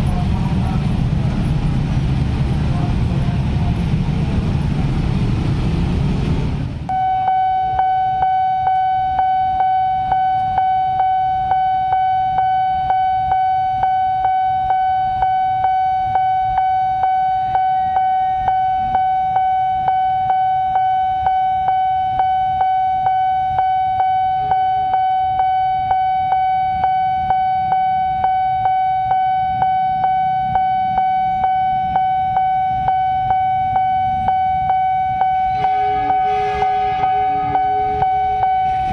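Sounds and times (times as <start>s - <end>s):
road traffic noise: 0.0s - 38.9s
level-crossing warning bell ringing: 6.9s - 38.9s.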